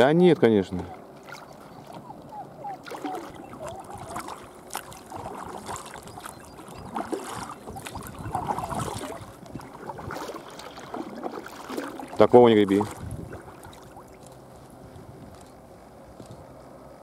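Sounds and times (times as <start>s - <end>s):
water trickling: 0.0s - 14.5s
paddles splashing in water: 0.0s - 15.6s.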